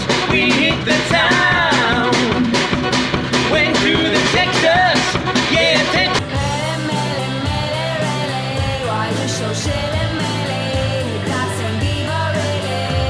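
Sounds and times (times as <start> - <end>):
upbeat rock music with singing: 0.0 - 13.0.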